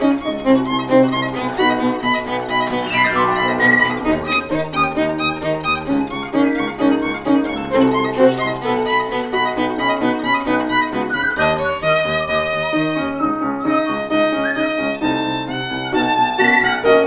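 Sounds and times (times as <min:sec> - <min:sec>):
piano accompaniment: 0:00.0 - 0:17.0
violin melody: 0:00.0 - 0:17.0.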